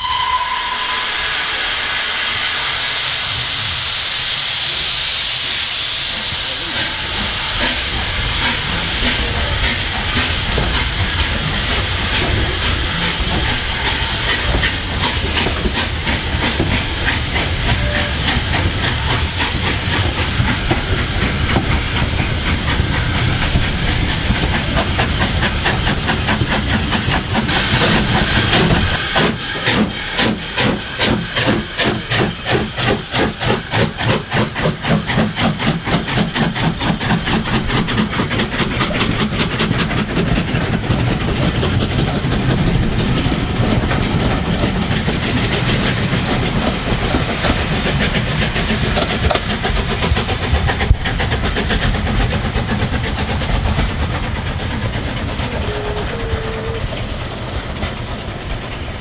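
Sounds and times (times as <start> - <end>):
passing train pulsing beat: 0.0 - 2.6, 6.5 - 59.0
steam hissing: 0.0 - 59.0
steam locomotive exhaust beats: 0.0 - 59.0.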